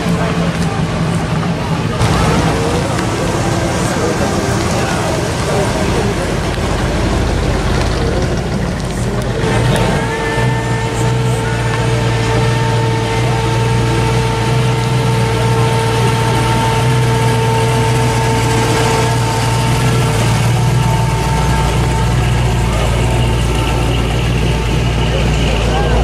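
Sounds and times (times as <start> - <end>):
car engine running at low speed: 0.0 - 26.0
steady higher hum: 0.0 - 26.0.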